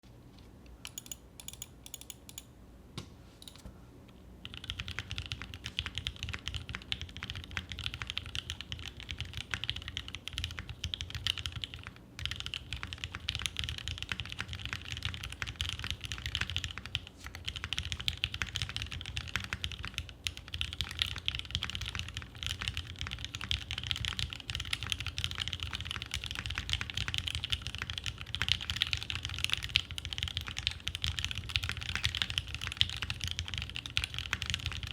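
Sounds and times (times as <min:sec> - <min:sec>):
fast typing on mechanical keyboard: 0:00.9 - 0:02.4, 0:04.4 - 0:34.9.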